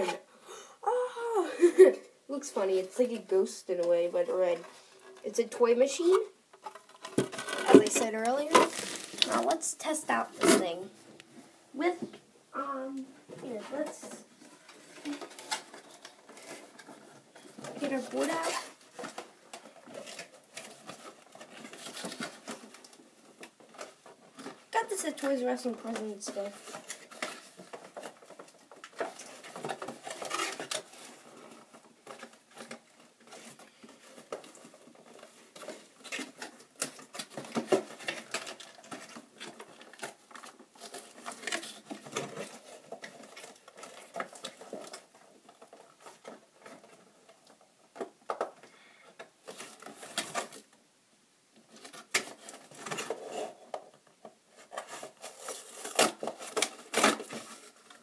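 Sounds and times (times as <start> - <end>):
hands handling plastic packaging: 1.6 - 11.9, 13.4 - 50.8, 51.5 - 58.0.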